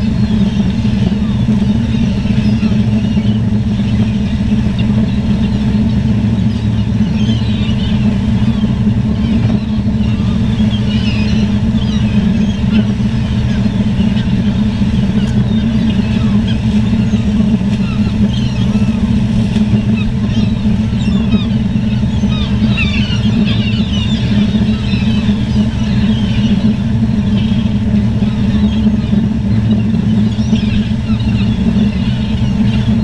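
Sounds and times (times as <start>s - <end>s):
low motor drone: 0.0s - 33.0s
seagulls calling: 0.0s - 33.0s.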